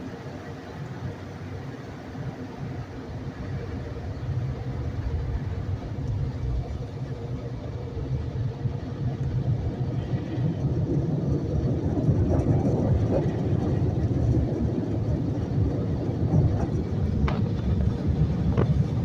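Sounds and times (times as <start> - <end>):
car wash machinery rumble: 0.0 - 19.0.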